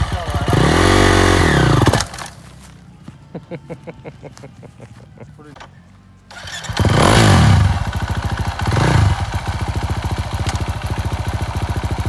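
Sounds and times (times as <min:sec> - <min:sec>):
motorcycle engine revving and idling: 0:00.0 - 0:03.5, 0:05.5 - 0:12.0.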